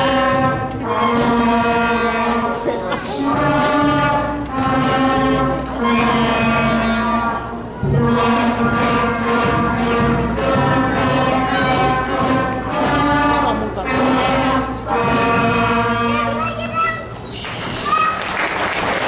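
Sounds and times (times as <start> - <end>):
wind band playing slow chords: 0.0 - 16.4.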